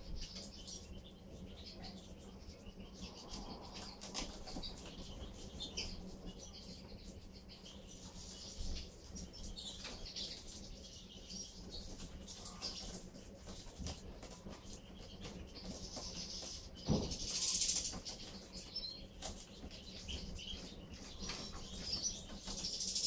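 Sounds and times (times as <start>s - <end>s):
birds twittering and chirping: 0.0s - 23.0s.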